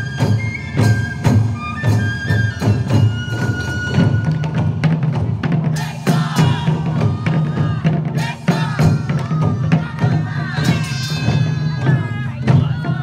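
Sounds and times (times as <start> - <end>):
taiko drums ensemble: 0.0 - 13.0.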